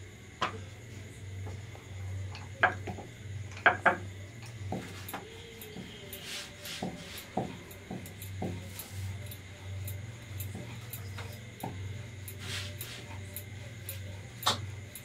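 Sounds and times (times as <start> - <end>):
low steady hum: 0.0 - 15.0
light clicks and taps on pan: 2.3 - 15.0.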